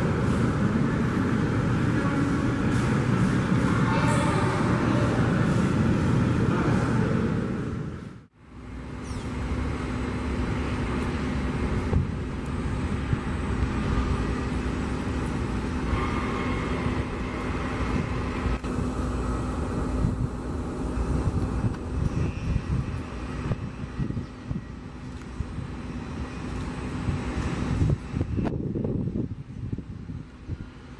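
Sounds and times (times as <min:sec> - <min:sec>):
jet engines at taxi power: 0:00.0 - 0:30.9
jet engines on takeoff roll: 0:00.0 - 0:30.9.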